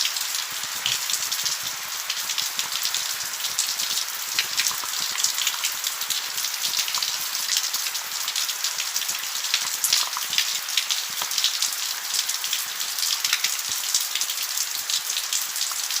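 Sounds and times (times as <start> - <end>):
raindrops pattering on surfaces: 0.0 - 16.0
steady rain falling: 0.0 - 16.0.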